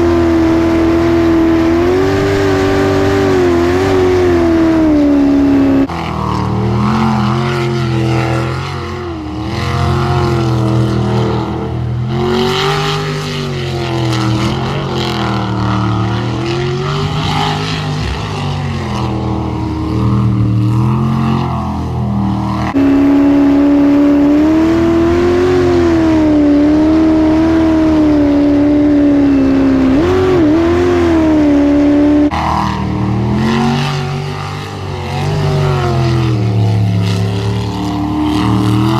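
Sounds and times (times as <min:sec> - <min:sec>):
jet boat engine running hard: 0:00.0 - 0:38.9.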